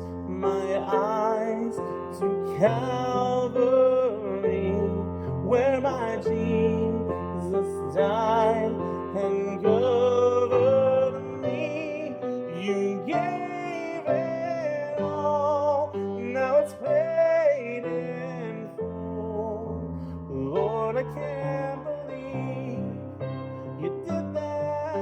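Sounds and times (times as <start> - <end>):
person singing slow song: 0.0 - 25.0.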